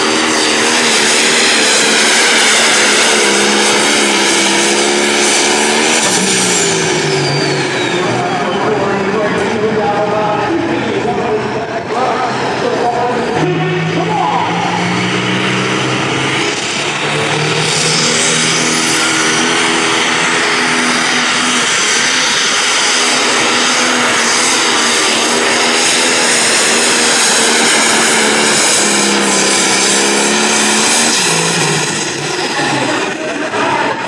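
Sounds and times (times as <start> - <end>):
diesel engine running hard: 0.0 - 34.0.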